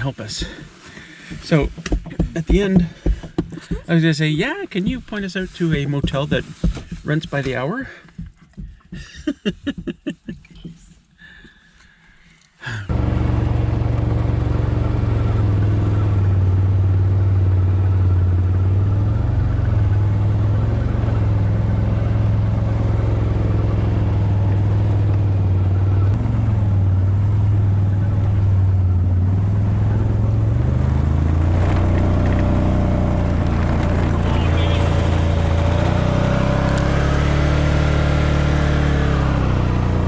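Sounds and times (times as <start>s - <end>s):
vehicle engine running: 0.0s - 8.7s, 12.9s - 40.0s.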